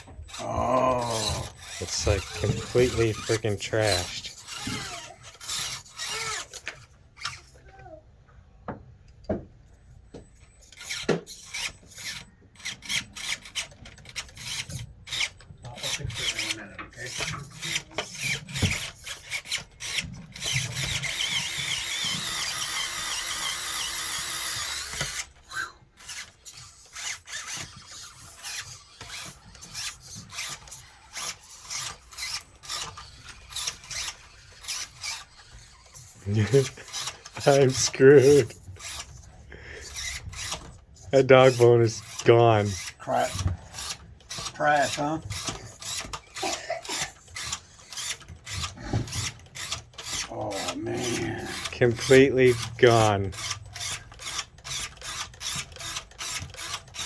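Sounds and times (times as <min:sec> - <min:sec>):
small motor whirring grind: 0:00.0 - 0:07.8, 0:10.4 - 0:57.0
rc car clicking and scraping: 0:00.0 - 0:08.0, 0:10.3 - 0:57.0.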